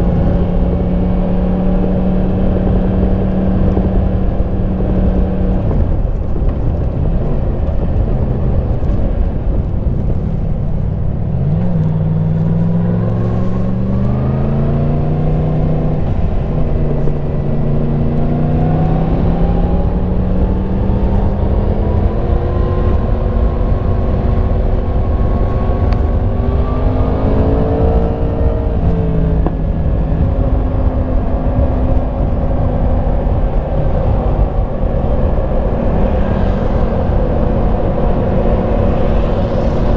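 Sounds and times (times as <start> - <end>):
motorcycle engine accelerating: 0.0 - 39.9
wind and road rush: 0.0 - 39.9.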